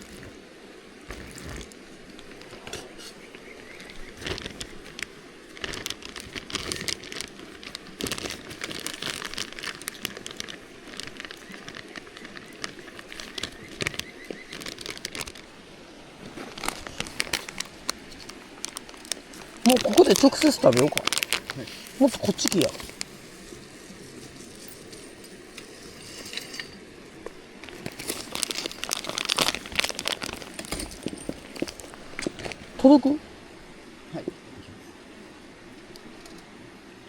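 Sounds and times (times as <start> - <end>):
crinkling and rustling: 0.0 - 0.4, 1.0 - 33.2.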